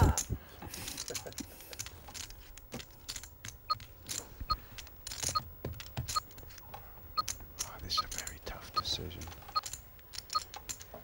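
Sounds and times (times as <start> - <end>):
poker chips clicking: 0.8 - 6.6, 7.2 - 11.0.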